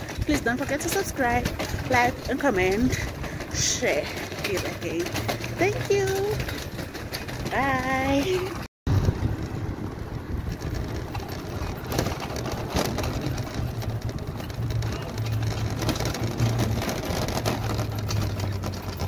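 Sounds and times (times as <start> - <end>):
shopping trolley wheels rattling: 0.0 - 19.0.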